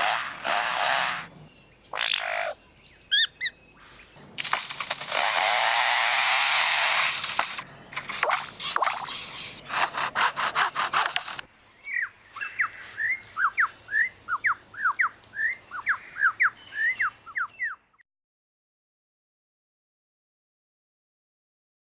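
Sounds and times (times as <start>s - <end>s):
bird harsh noisy pulses: 0.0s - 17.8s.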